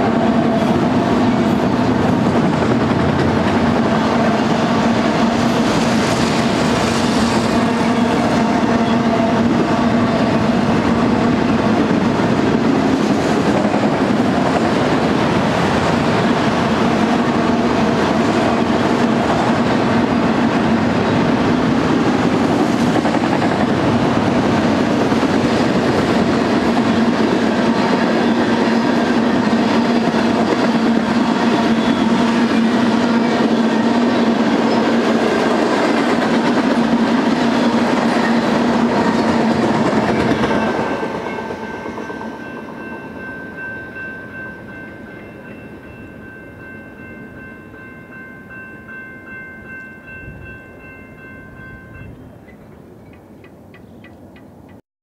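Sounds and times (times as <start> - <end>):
freight train wheels rumbling: 0.0 - 53.6.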